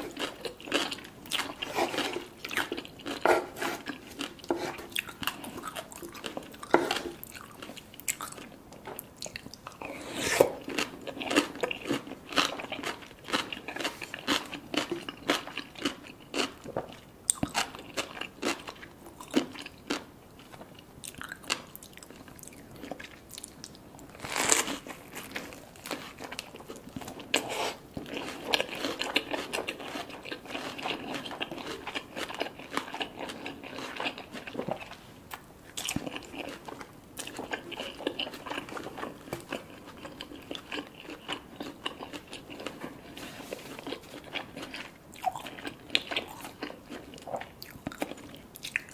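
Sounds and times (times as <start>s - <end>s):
crunchy biting and chewing: 0.0s - 20.1s, 21.1s - 48.9s.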